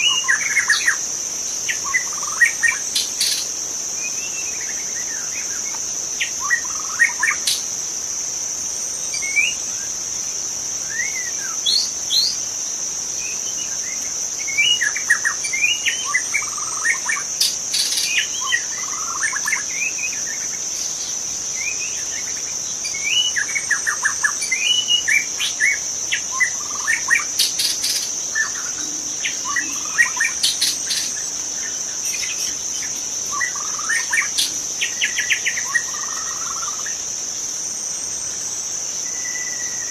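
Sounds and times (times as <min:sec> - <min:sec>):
bird singing whistles and chirps: 0:00.0 - 0:01.0, 0:01.7 - 0:07.6, 0:10.8 - 0:12.4, 0:13.2 - 0:37.0, 0:39.0 - 0:39.9
high-pitched insect drone: 0:00.0 - 0:39.9.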